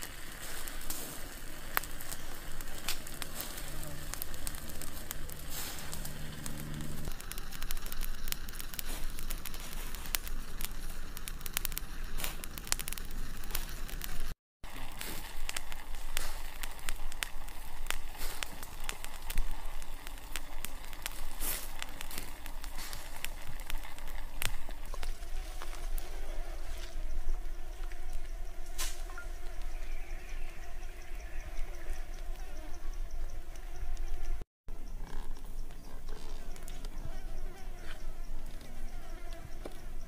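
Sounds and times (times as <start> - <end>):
wood fire crackling: 0.0 - 32.4.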